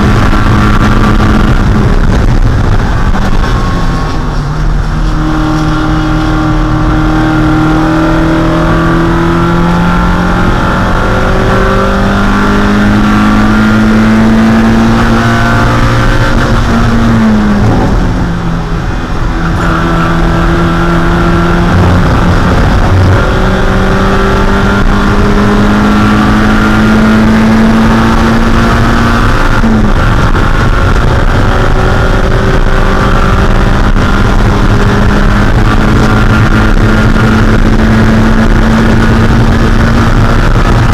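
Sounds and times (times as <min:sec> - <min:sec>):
race car engine under load: 0:00.0 - 0:40.9
road and wind noise: 0:00.0 - 0:40.9.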